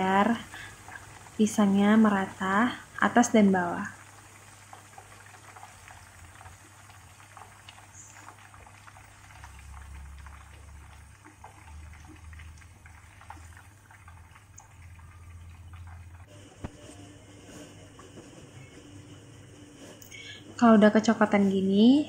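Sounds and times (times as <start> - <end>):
fritters deep-frying in oil: 0.0 - 22.0.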